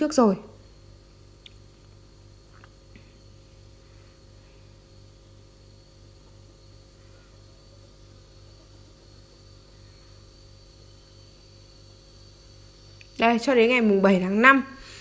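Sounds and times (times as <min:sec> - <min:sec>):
light hiss: 0:00.0 - 0:15.0
low electrical hum: 0:00.0 - 0:15.0.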